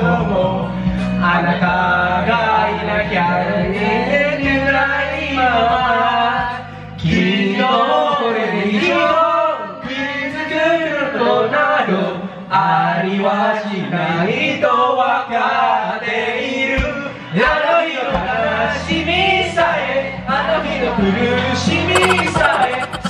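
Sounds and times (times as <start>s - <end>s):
karaoke backing track: 0.0s - 23.0s
men singing karaoke: 0.0s - 23.0s.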